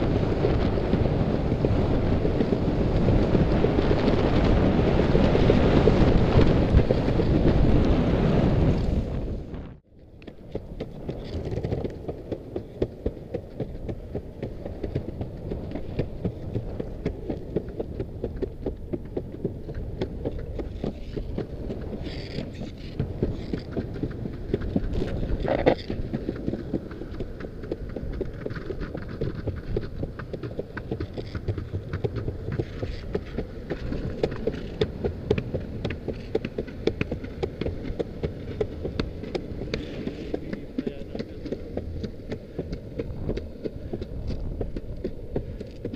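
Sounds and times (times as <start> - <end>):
longboard wheels rolling on pavement: 0.0 - 45.9.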